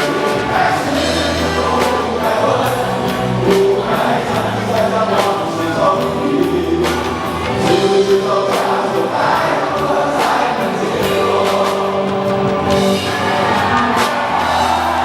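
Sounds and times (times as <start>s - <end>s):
group singing: 0.0s - 15.0s
rock band playing with drums: 0.0s - 15.0s.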